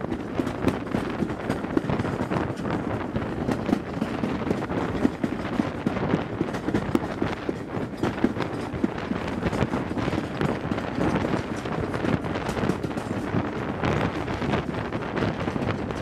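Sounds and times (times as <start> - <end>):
steam locomotive exhaust beats: 0.0 - 16.0
train wheels clattering over rails: 0.0 - 16.0.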